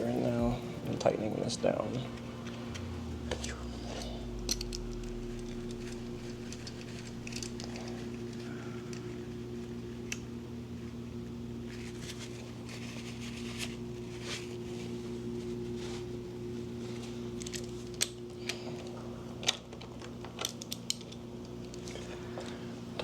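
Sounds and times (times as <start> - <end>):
steady low hum: 0.0 - 19.4.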